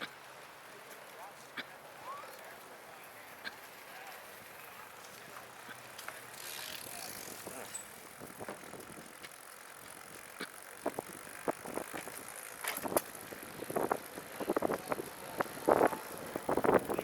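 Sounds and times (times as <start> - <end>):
trike rolling along path: 0.0 - 17.0
sharp ticks from rear wheel: 3.4 - 17.0.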